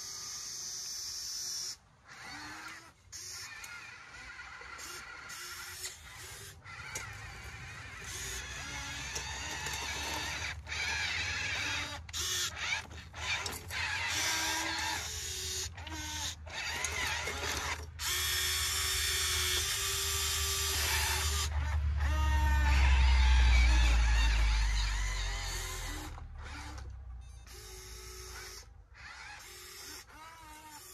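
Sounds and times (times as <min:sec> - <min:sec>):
small electric gear motors whining: 0:00.0 - 0:30.9.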